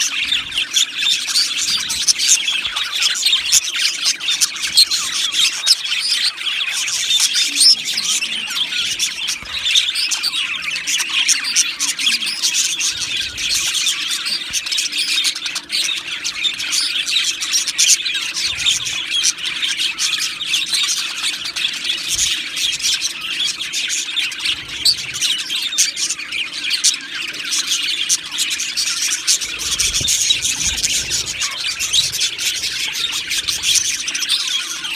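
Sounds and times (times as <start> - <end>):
budgerigars chattering and chirping: 0.0 - 34.9.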